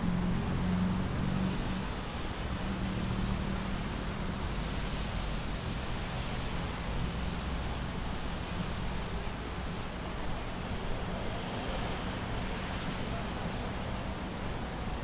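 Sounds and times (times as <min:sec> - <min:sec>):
steady traffic noise: 0:00.0 - 0:15.0.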